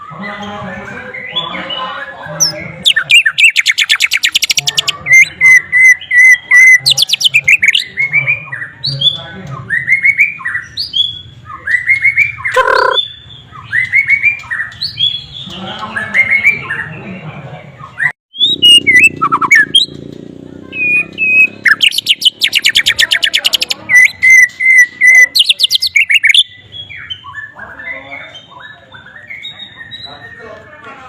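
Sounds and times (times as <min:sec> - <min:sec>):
songbird singing: 0:00.0 - 0:30.9
bird squawk: 0:01.4 - 0:08.8, 0:09.8 - 0:16.9, 0:18.0 - 0:20.0, 0:20.6 - 0:30.4.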